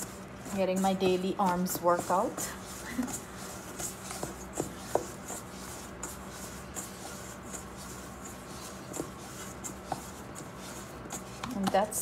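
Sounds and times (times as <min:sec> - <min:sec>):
hands kneading dough: 0:00.0 - 0:12.0.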